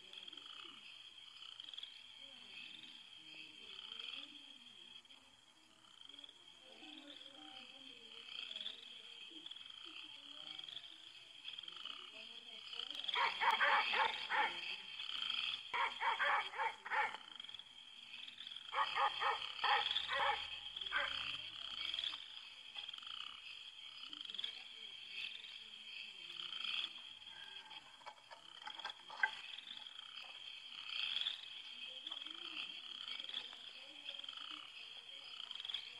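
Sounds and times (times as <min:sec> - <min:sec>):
frogs croaking: 0:00.0 - 0:35.9
night insects chirring: 0:00.0 - 0:35.9.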